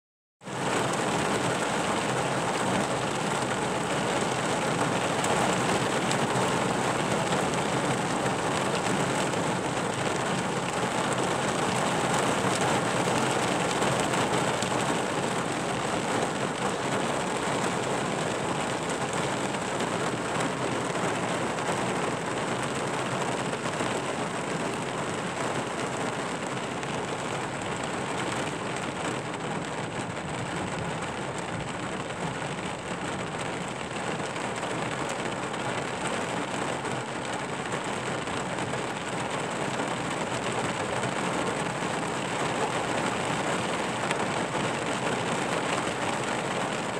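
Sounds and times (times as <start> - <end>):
steady rain falling: 0.4 - 46.9.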